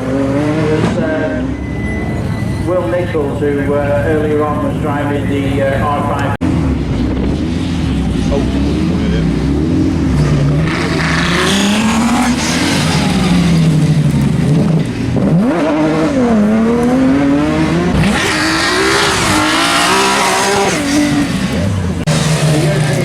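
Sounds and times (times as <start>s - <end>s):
rally car engine revving: 0.0s - 3.5s, 6.2s - 23.0s.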